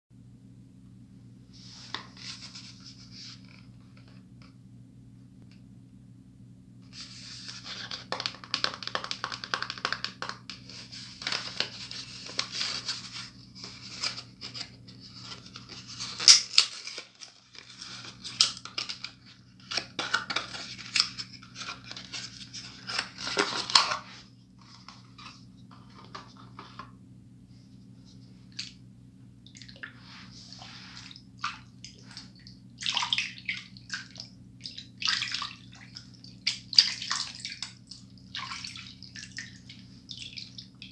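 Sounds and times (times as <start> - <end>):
steady low hum: 0.2 - 8.4, 10.4 - 40.9.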